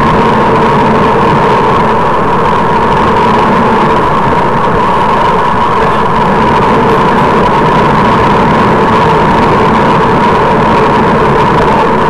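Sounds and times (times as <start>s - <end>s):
constant hum: 0.0s - 12.0s
wind noise: 0.0s - 12.0s.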